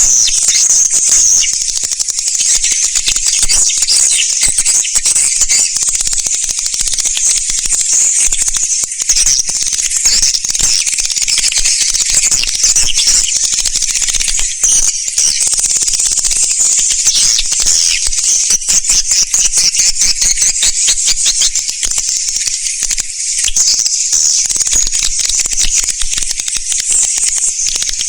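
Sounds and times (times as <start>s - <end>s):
swiftlets twittering and chirping: 0.0s - 28.0s.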